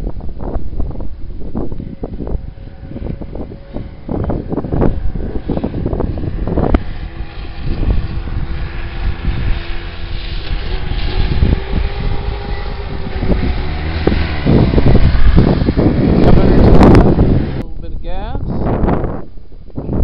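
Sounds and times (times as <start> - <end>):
snowmobile engine running: 0.0 - 17.7.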